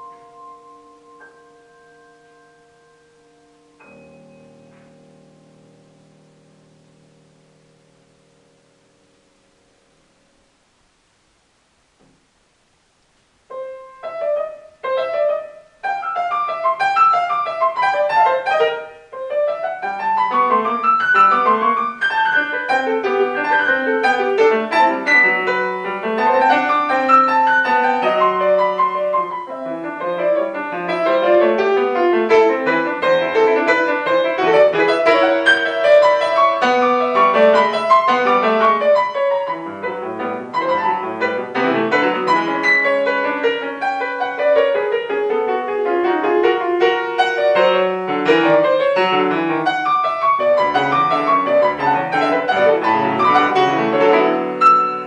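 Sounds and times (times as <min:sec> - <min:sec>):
grand piano playing classical piece: 0:00.0 - 0:10.7, 0:13.4 - 0:55.0.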